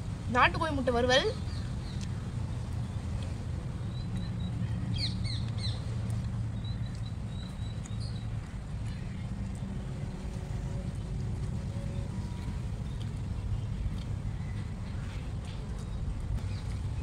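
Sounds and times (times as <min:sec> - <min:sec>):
steady low hum: 0:00.0 - 0:17.0
birds chirping: 0:00.4 - 0:17.0.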